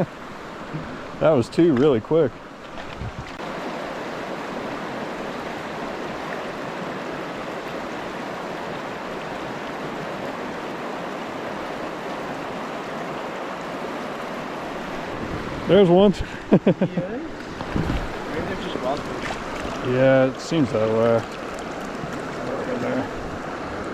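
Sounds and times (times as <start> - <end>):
stream flowing: 0.0 - 23.9.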